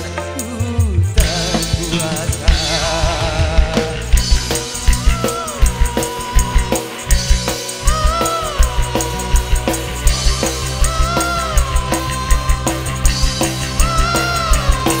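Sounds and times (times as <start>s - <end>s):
bass line: 0.0s - 15.0s
drum kit beat: 0.0s - 15.0s
live band music: 0.0s - 15.0s.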